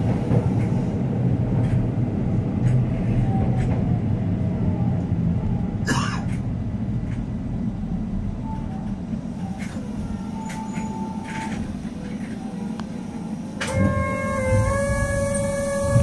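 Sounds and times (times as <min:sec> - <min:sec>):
train motors and wheels rumbling: 0:00.0 - 0:16.0.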